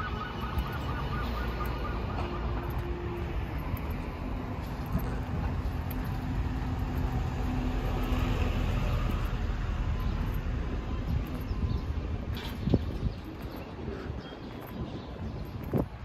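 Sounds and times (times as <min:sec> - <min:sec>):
bus engine hum: 0:00.0 - 0:15.2
traffic rumble: 0:00.0 - 0:16.0.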